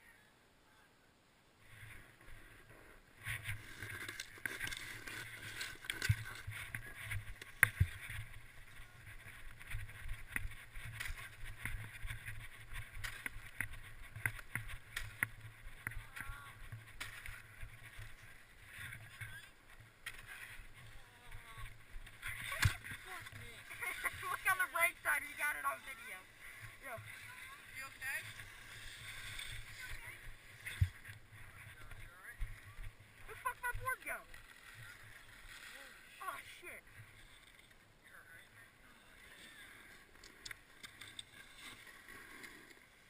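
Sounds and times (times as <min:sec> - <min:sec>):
snowboard scraping over snow: 0:02.1 - 0:37.3.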